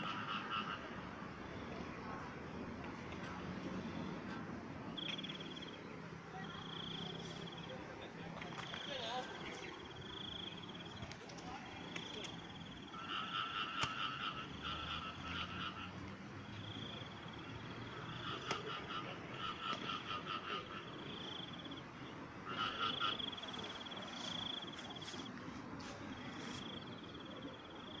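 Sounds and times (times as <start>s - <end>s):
frogs calling: 0.0s - 28.0s.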